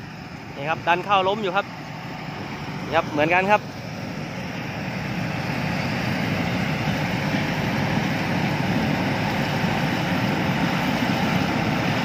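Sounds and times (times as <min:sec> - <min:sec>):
combine harvesters running: 0:00.0 - 0:12.0.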